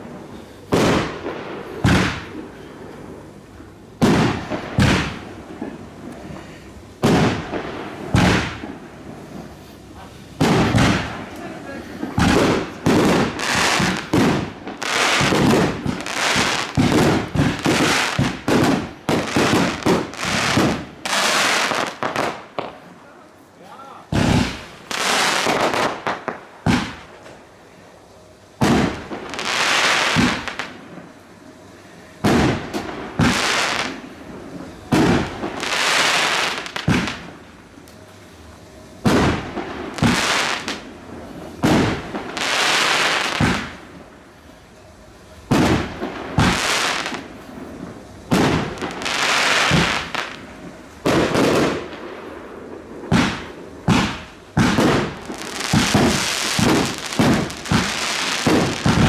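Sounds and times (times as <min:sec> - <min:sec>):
firework bang and hiss: 0:00.0 - 0:23.0, 0:24.1 - 0:27.5, 0:28.6 - 0:31.2, 0:32.2 - 0:38.0, 0:39.0 - 0:44.6, 0:45.4 - 0:59.0.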